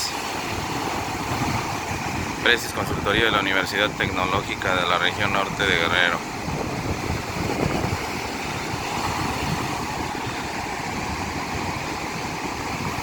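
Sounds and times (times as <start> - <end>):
sea waves washing: 0.0 - 13.0
wind buffeting microphone: 0.0 - 13.0.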